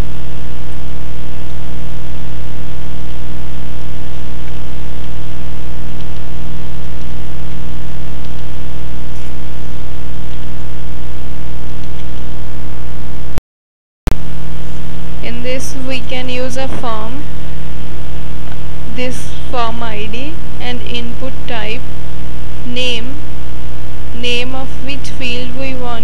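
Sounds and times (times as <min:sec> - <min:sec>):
loud electrical hum: 0:00.0 - 0:13.3, 0:14.2 - 0:26.0.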